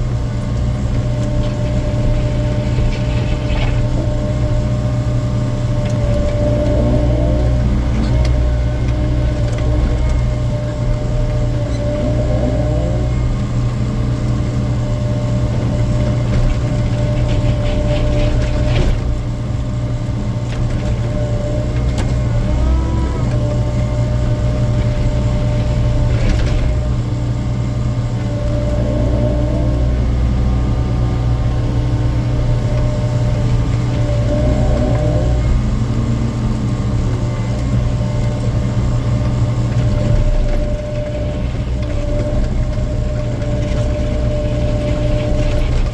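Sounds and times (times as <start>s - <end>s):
diesel engine hum: 0.0s - 45.9s
hydraulic whine: 0.0s - 45.9s.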